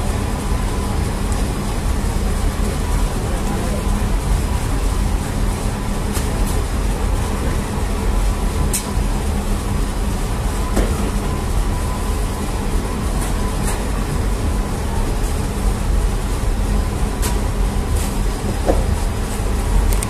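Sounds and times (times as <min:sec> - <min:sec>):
bakery machinery humming: 0:00.0 - 0:20.0.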